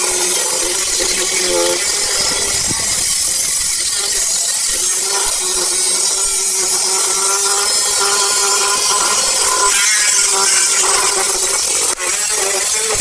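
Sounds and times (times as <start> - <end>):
power tool cutting metal: 0.0 - 13.0.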